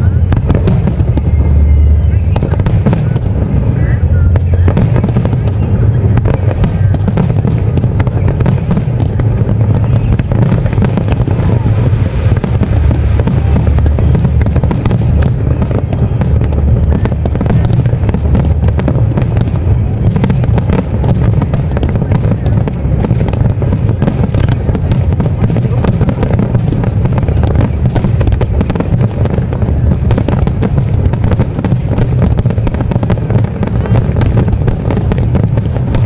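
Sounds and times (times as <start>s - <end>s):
heavy continuous rumble: 0.0s - 36.0s.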